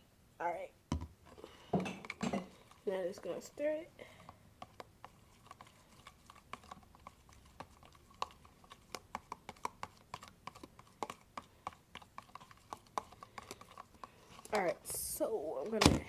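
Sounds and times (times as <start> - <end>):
utensil stirring glue: 1.2 - 15.9.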